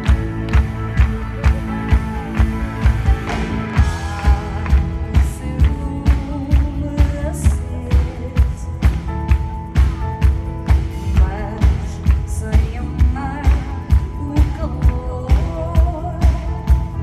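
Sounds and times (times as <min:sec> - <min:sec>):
pop-rock band playing: 0:00.0 - 0:17.0
woman singing: 0:01.1 - 0:09.4, 0:11.0 - 0:17.0.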